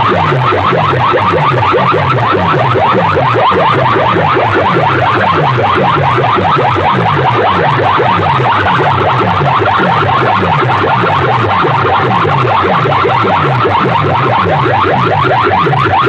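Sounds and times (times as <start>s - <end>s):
electronic siren alarm: 0.0s - 16.0s.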